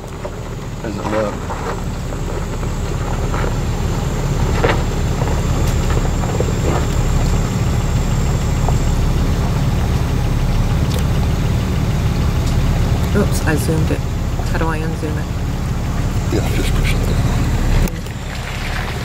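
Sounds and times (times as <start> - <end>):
off-road engine rumbling: 0.0 - 19.0.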